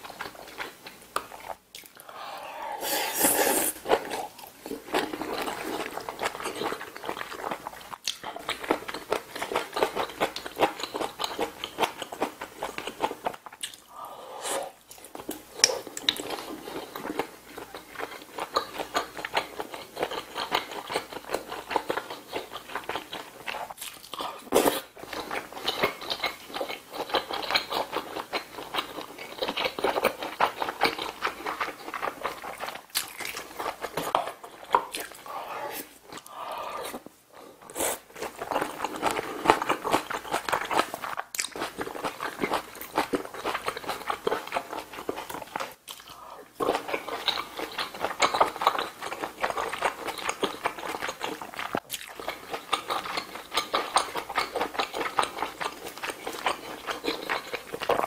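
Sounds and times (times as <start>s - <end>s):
close chewing and biting: 3.8s - 13.9s, 14.9s - 58.0s.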